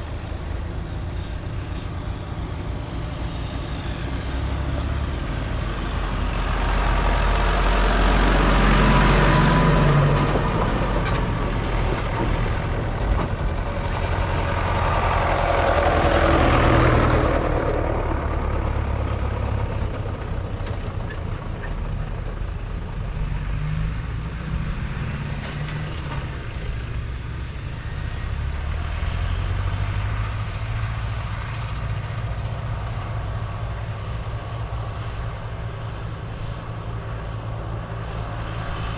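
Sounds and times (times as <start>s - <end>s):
tractor engines driving past: 0.0s - 38.9s.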